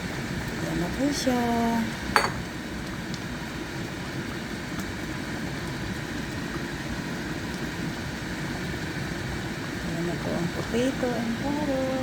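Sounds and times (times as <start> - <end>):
pot cooking rumble and hiss: 0.0 - 12.0.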